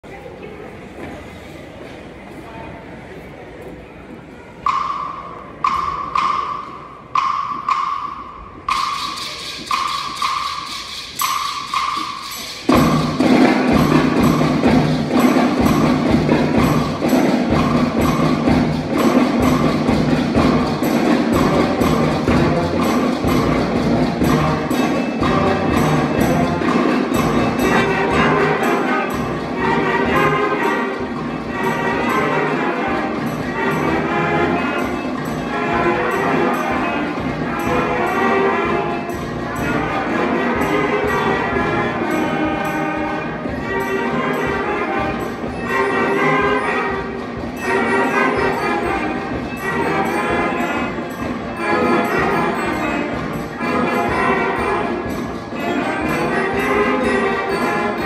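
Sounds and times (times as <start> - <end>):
concert band playing: 4.6 - 58.0
percussion steady beat: 4.6 - 58.0.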